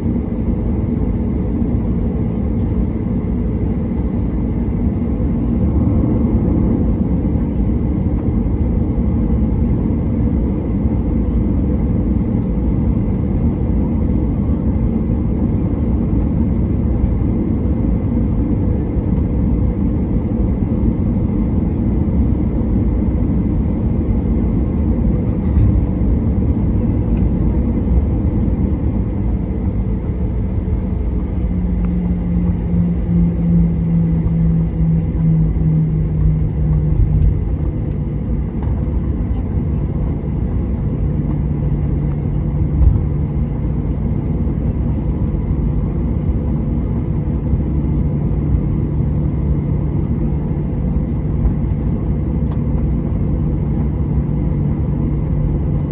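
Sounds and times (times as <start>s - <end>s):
jet engines rumbling: 0.0s - 55.9s
steady low hum: 0.0s - 55.9s.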